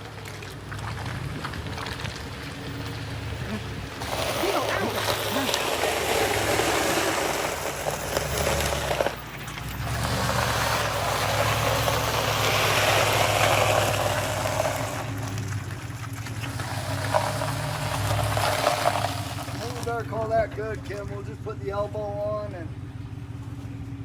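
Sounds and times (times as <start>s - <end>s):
heavy diesel truck engine: 0.0s - 24.0s.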